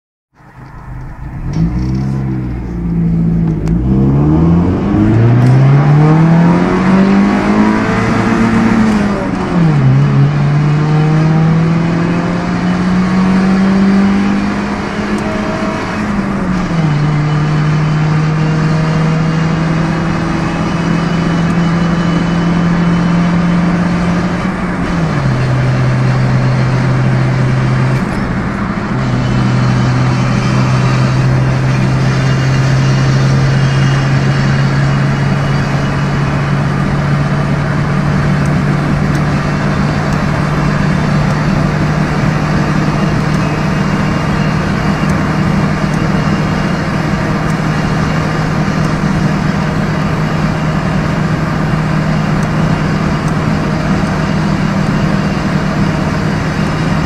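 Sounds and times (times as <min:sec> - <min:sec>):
car engine accelerating: 0:00.3 - 0:57.0.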